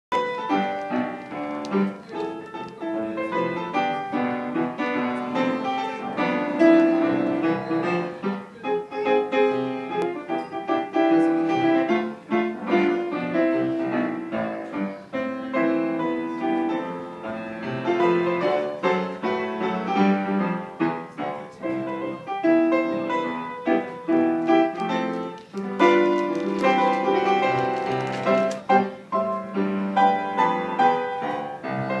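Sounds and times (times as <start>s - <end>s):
solo piano piece: 0.1s - 32.0s.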